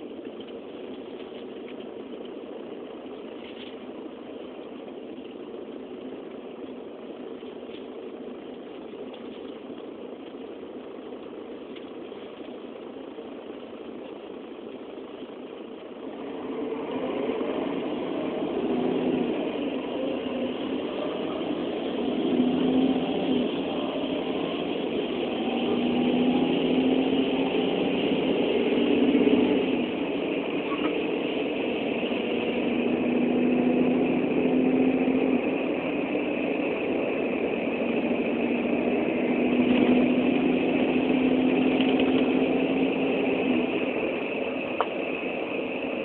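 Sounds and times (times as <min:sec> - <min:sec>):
vehicle engines in traffic: 0:00.0 - 0:46.0.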